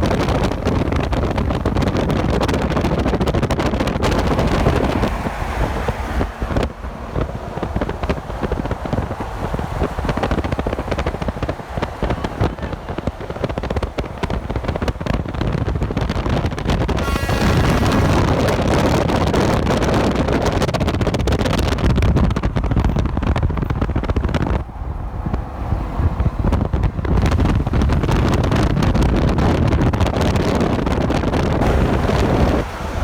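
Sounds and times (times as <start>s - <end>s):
wind buffeting microphone: 0.0s - 33.0s
highway traffic passing: 0.1s - 30.6s, 31.4s - 33.0s.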